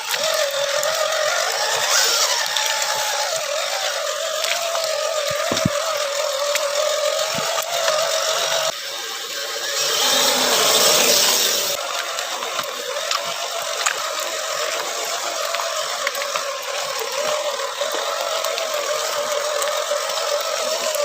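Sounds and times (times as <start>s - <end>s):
small clicks: 0.0s - 8.8s, 10.2s - 21.0s
electric motor whining: 0.0s - 21.0s
gears rattling: 0.0s - 21.0s.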